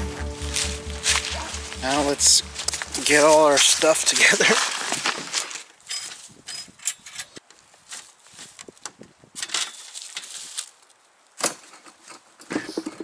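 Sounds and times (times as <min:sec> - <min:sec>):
leaves rustling underfoot: 0:00.0 - 0:12.4.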